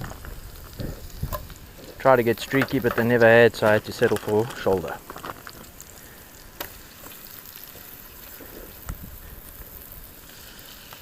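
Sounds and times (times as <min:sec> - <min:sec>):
bacon sizzling in a pan: 0:00.0 - 0:11.0.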